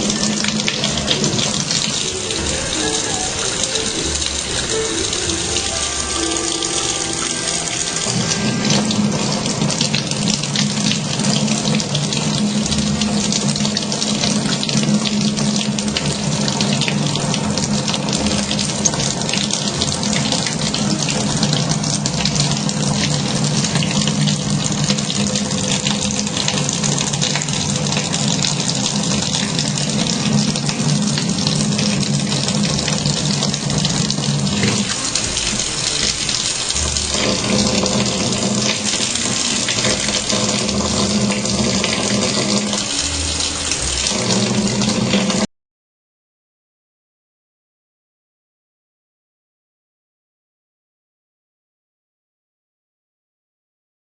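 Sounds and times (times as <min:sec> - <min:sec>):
water running from tap: 0:00.0 - 0:45.5.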